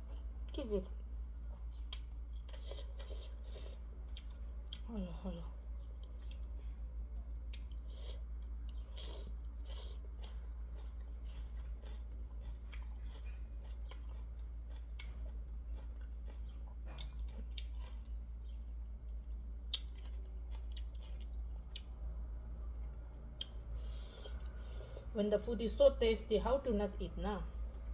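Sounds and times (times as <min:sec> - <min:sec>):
person chewing food: 0:00.0 - 0:22.2, 0:22.8 - 0:25.1
steady low hum: 0:00.0 - 0:27.9.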